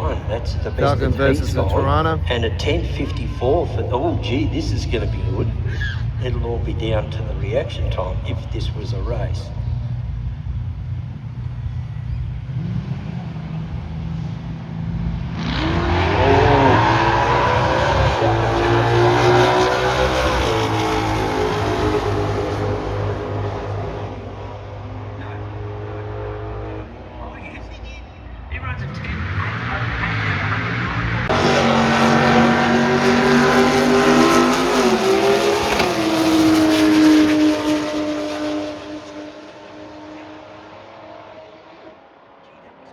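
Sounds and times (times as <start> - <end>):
drag racing engines revving: 0.0 - 42.1.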